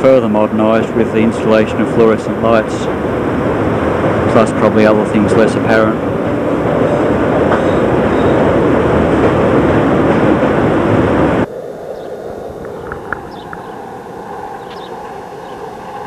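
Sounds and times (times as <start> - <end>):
streetcar wheels on rails: 0.0 - 16.0.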